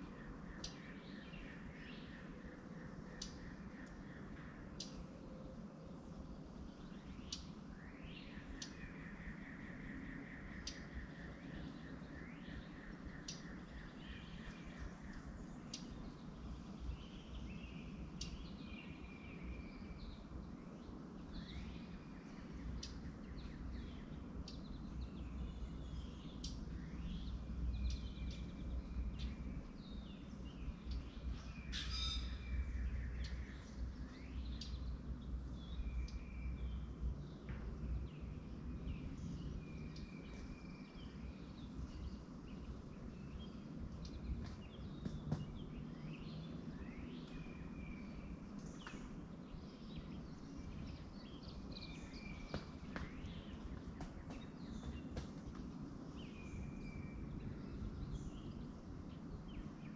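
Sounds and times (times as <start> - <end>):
small birds chirping: 0.0 - 5.0, 5.6 - 59.9
low background rumble: 1.3 - 59.9.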